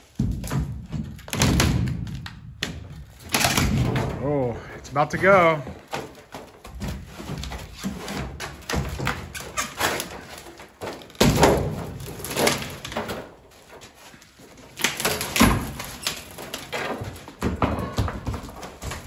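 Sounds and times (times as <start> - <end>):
heavy thud of wood falling: 0.0 - 4.7, 5.3 - 13.4, 14.8 - 19.0
wood cracking and knocking: 0.0 - 19.0.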